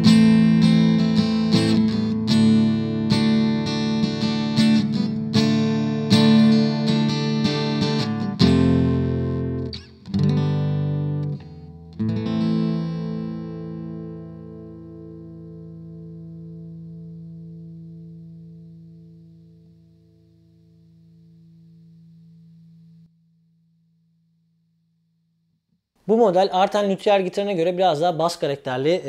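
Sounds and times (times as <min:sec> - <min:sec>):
acoustic guitar strummed through amplifier: 0:00.0 - 0:23.4.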